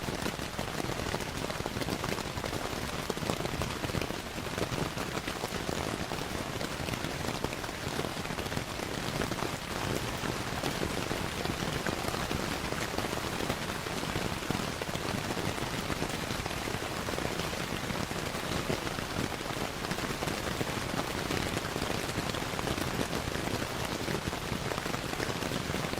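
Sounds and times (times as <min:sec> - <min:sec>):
steady rain: 0:00.0 - 0:25.9.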